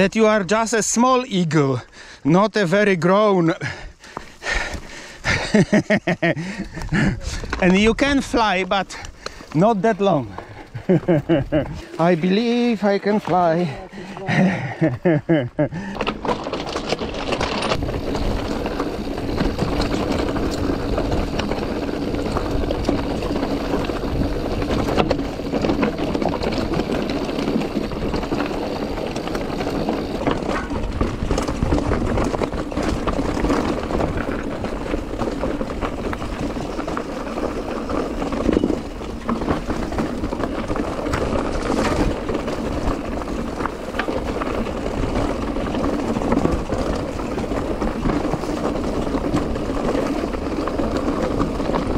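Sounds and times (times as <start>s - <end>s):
tyres crunching on loose stone: 6.5s - 51.9s.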